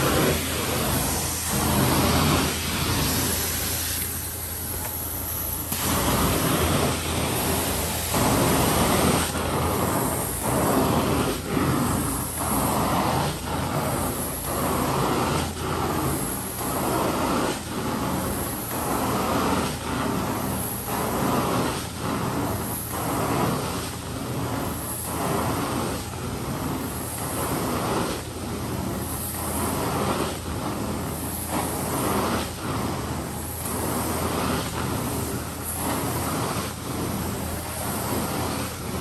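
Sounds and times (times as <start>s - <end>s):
cleaning machine hum: 0.0s - 39.0s
extraction wand suction rush: 0.0s - 39.0s.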